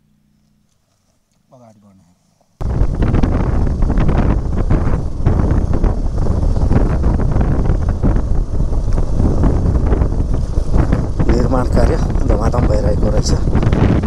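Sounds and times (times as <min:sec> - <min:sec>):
wind buffeting microphone: 0:02.6 - 0:14.0.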